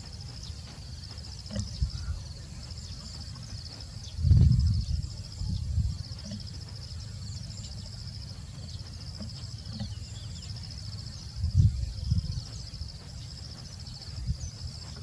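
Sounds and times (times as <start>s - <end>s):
insects trilling: 0.0s - 15.0s
low rumbles: 0.0s - 15.0s.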